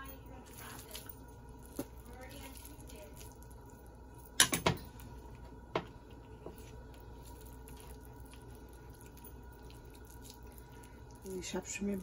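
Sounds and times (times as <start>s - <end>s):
squishing of minced meat: 0.0s - 12.0s.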